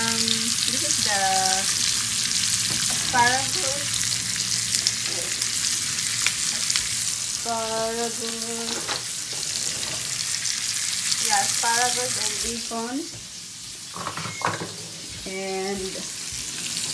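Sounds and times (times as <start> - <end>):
food sizzling in frying pan: 0.0 - 16.9.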